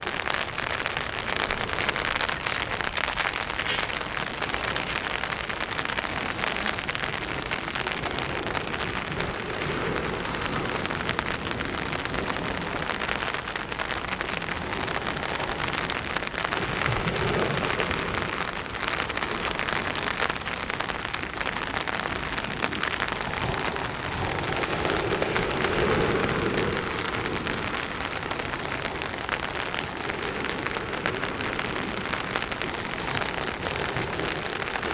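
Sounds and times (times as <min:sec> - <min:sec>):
steady rain falling: 0:00.0 - 0:34.9
wind gusts: 0:00.0 - 0:34.9.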